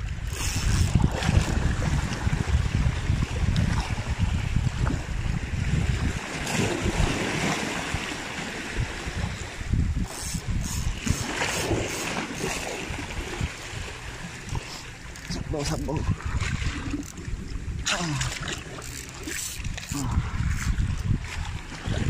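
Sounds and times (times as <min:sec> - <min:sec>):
wind rumble on microphone: 0:00.0 - 0:22.0
sea waves washing over rocks: 0:01.1 - 0:09.7, 0:10.4 - 0:20.3.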